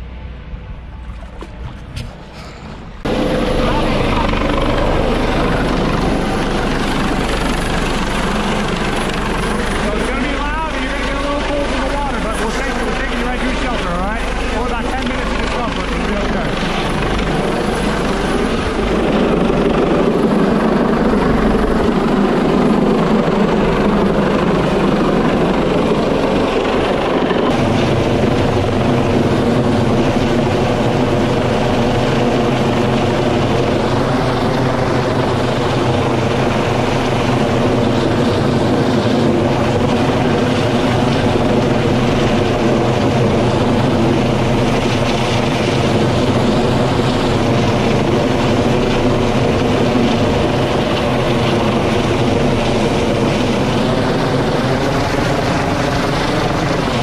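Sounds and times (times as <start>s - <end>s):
helicopter hovering overhead: 0.0s - 57.0s.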